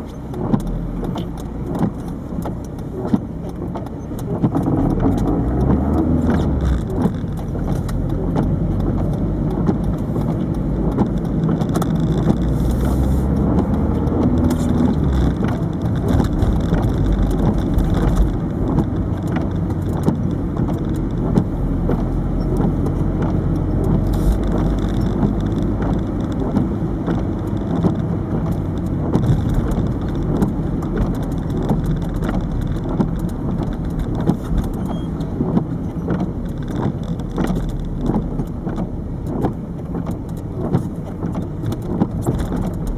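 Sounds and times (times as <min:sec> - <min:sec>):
camera rattling against dashboard: 0:00.0 - 0:42.9
car engine and road noise: 0:00.0 - 0:42.9.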